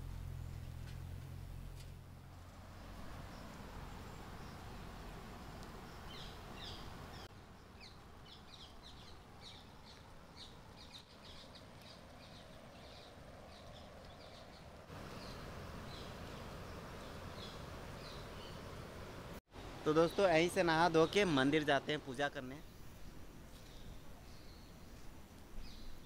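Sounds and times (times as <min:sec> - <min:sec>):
steady background hiss: 0:01.3 - 0:26.0
small birds chirping: 0:02.4 - 0:26.0.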